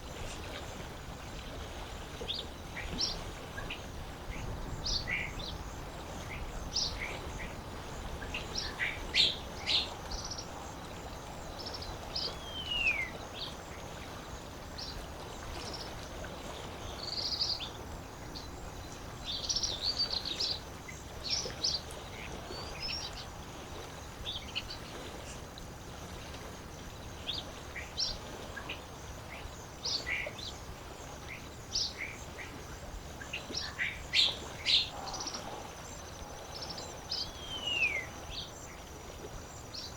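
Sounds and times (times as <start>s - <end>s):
lake water rushing: 0.0s - 39.9s.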